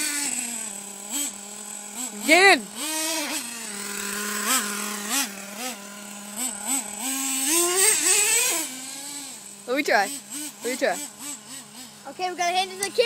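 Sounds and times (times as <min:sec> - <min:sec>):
small nitro engine revving: 0:00.0 - 0:13.0.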